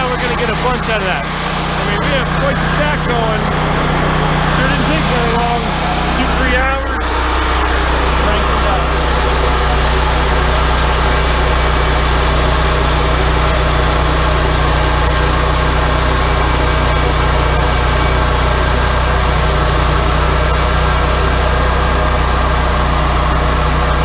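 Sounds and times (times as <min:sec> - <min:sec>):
sawmill engine humming: 0:00.0 - 0:24.0.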